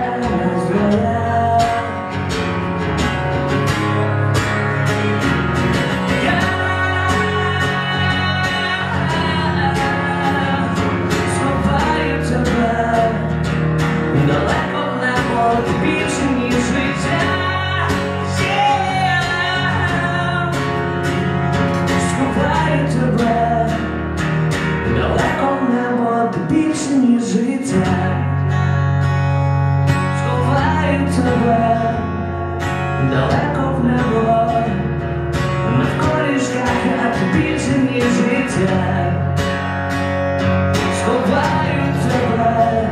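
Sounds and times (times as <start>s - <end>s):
man singing: 0.0s - 2.3s, 3.6s - 24.0s, 24.8s - 28.6s, 30.0s - 39.5s, 40.7s - 42.9s
acoustic guitar: 0.0s - 42.9s.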